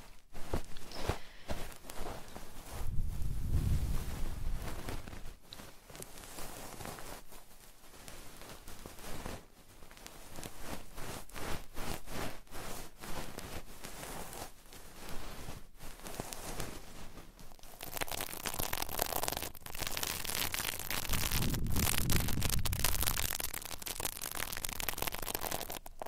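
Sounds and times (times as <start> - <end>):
soft rubbing on microphone: 0.0 - 26.0.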